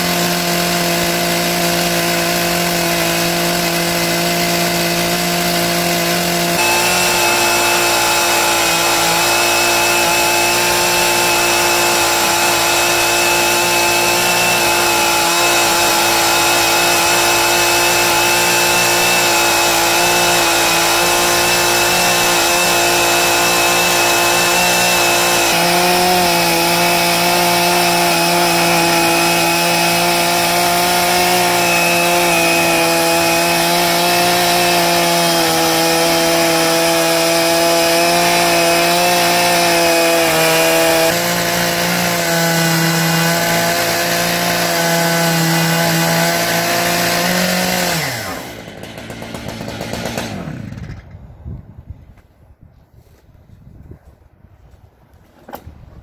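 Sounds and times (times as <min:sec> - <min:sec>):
chainsaw cutting through log: 0:00.0 - 0:51.1.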